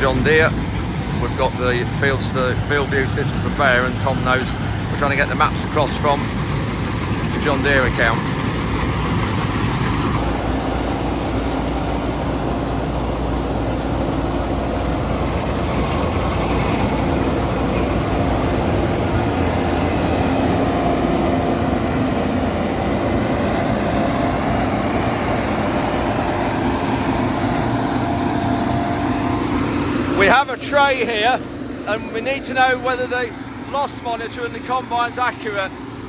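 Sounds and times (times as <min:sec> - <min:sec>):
combine harvester engine droning: 0:00.0 - 0:36.0.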